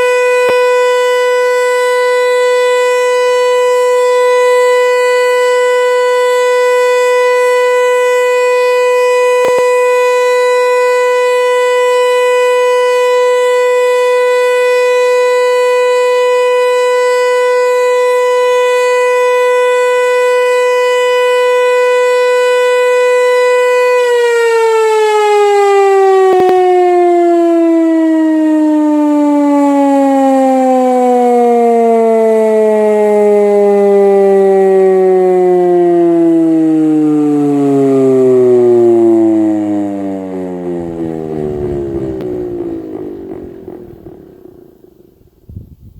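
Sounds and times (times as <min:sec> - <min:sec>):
siren steady tone: 0:00.0 - 0:45.6.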